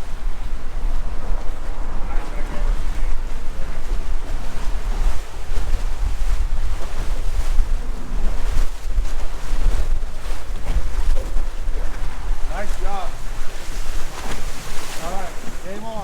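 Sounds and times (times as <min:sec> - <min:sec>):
water washing around boat: 0:00.0 - 0:16.0
wind buffeting microphone: 0:00.0 - 0:16.0.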